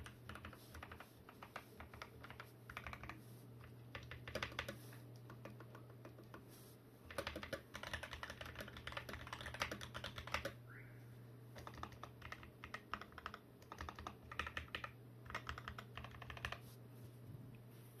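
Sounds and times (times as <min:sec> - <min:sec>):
mechanical keyboard typing: 0:00.0 - 0:06.4, 0:07.0 - 0:10.6, 0:11.6 - 0:16.6.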